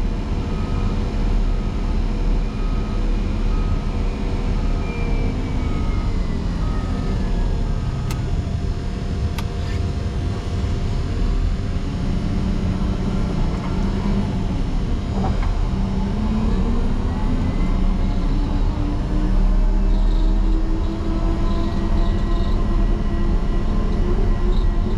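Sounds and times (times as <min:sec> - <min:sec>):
diesel engine under heavy load: 0:00.0 - 0:24.9.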